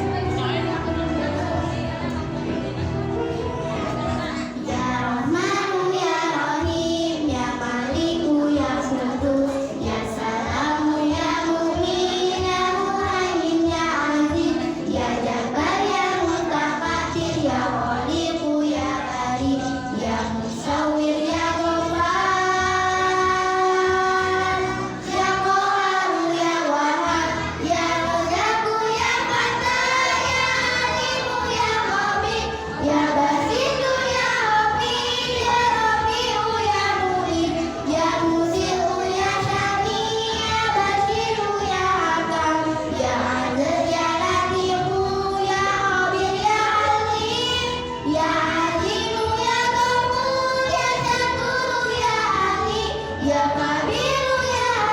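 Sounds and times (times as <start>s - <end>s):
backing music: 0.0s - 54.9s
child singing: 4.2s - 54.9s.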